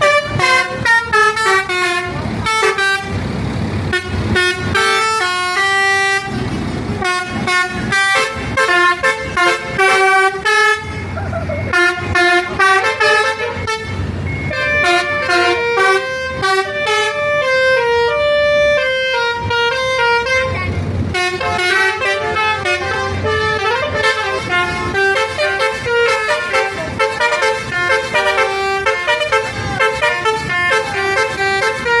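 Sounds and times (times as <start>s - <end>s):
bus musical horn playing a tune: 0.0s - 3.3s, 3.9s - 32.0s.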